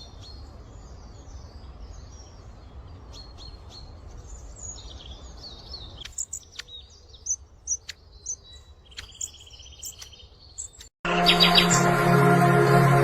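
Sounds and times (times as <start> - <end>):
small songbirds chirping: 0.0 - 11.9.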